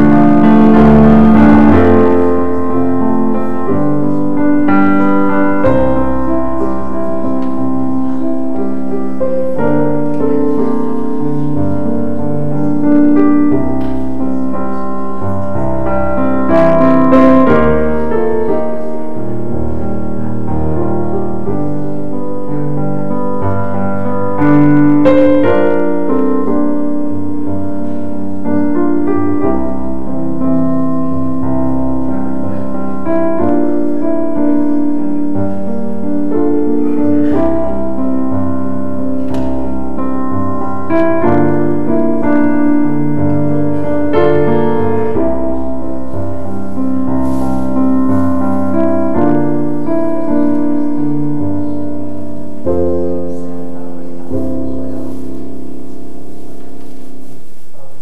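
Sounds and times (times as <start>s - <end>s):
slow solo piano chords: 0.0s - 58.0s.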